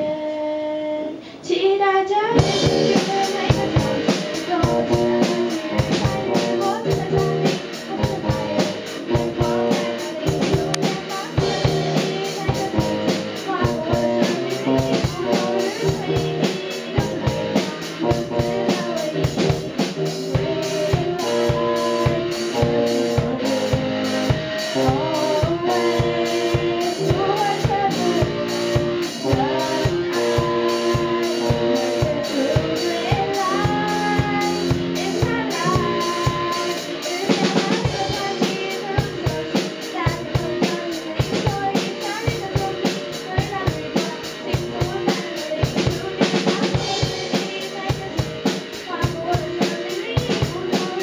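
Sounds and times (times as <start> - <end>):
young woman singing: 0.0 - 51.0
drum kit beat: 2.3 - 51.0
bass guitar: 2.4 - 51.0
electric guitar: 2.4 - 51.0.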